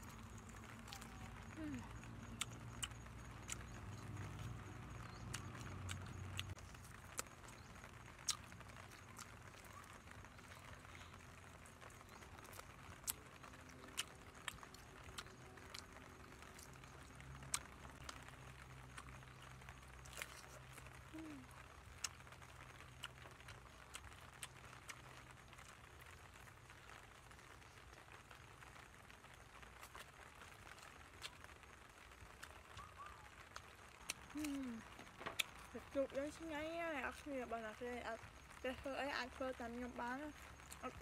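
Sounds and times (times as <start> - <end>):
mouth smacks and chewing crunches: 0.0 - 27.0, 29.6 - 36.0.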